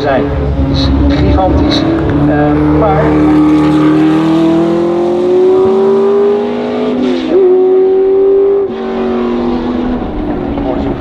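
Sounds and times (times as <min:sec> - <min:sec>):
racing engines accelerating: 0:00.0 - 0:11.0.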